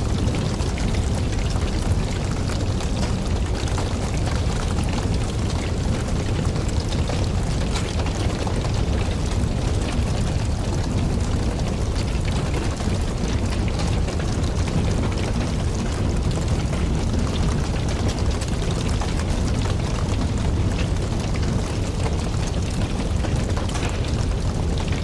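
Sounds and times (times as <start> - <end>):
logs crackling and popping: 0.0 - 25.0
low rumble of flame: 0.0 - 25.0.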